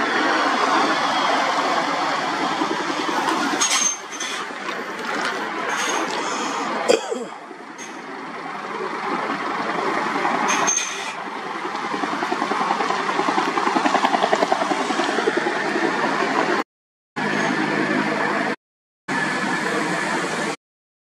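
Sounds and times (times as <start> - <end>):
helicopter rotor and engine: 0.0 - 16.6, 17.2 - 20.6.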